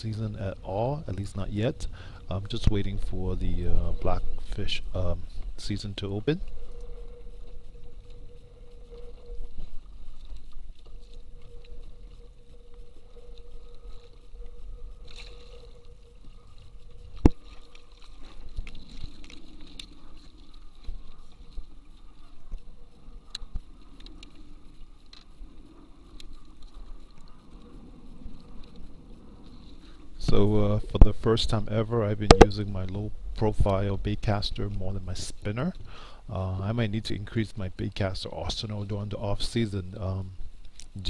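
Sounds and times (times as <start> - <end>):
low rumble: 0.0 - 35.8
water lapping: 0.0 - 41.0.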